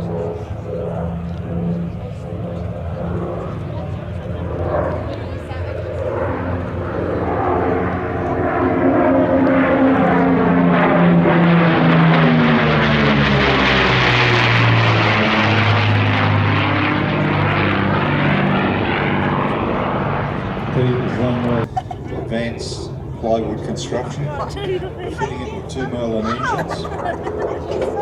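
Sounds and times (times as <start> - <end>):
propeller aircraft engines passing: 0.0 - 28.0.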